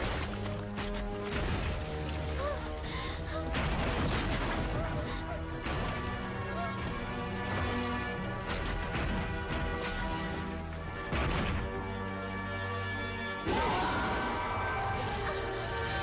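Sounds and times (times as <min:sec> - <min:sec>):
dramatic orchestral score: 0:00.0 - 0:16.0.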